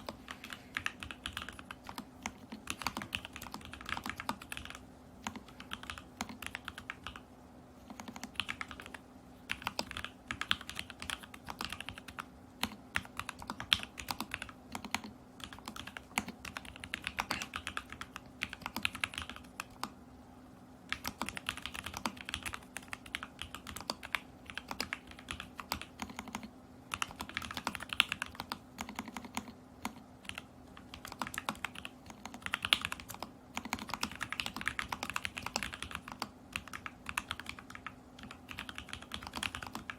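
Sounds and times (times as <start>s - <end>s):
mechanical keyboard typing: 0.0s - 20.0s, 20.9s - 39.9s.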